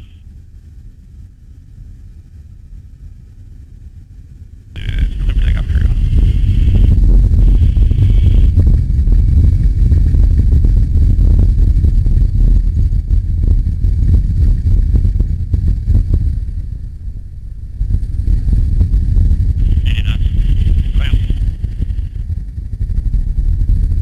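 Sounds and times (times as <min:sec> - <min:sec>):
high engine whine: 0:00.0 - 0:00.8, 0:04.7 - 0:24.0
jet engines rumbling: 0:04.8 - 0:24.0.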